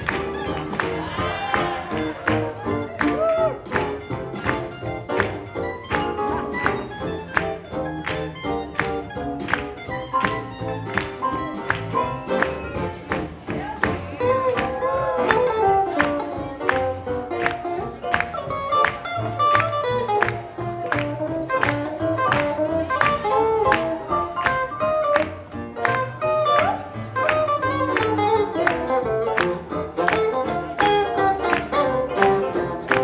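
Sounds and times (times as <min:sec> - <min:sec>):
swing jazz band playing: 0:00.0 - 0:33.0.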